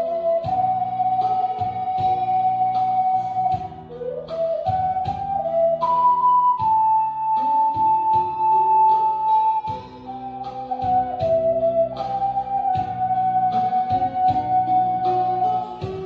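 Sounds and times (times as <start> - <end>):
backing track with beat and bass: 0.0 - 16.0
flute-like wind instrument melody: 0.0 - 16.0.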